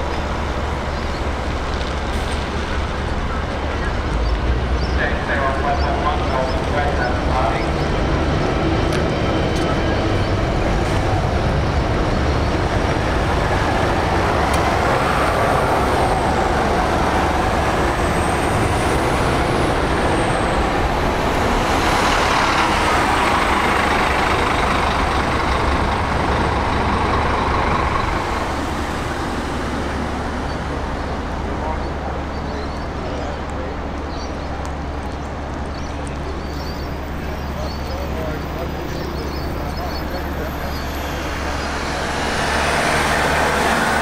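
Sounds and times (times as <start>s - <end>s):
bus engine running: 0.0s - 44.0s.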